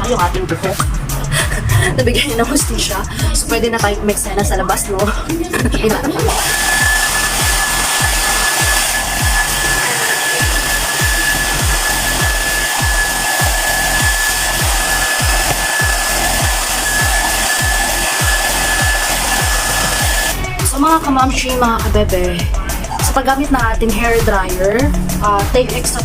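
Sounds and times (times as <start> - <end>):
fan motor whine: 0.0 - 26.0
hair dryer blowing: 0.8 - 26.0.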